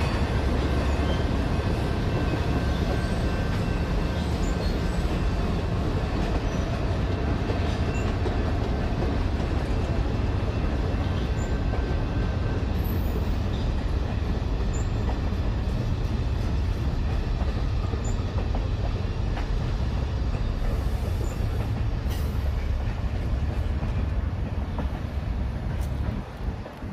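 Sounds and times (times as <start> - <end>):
train wheels rumbling on track: 0.0 - 26.9.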